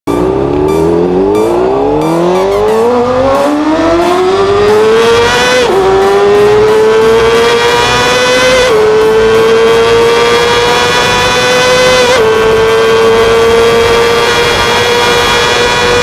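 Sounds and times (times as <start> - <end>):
motorcycle engine accelerating: 0.1 - 16.0.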